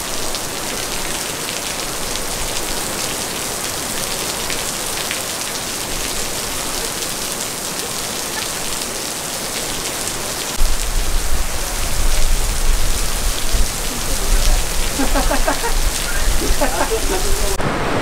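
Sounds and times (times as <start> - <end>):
heavy rain on pavement: 0.0 - 18.0.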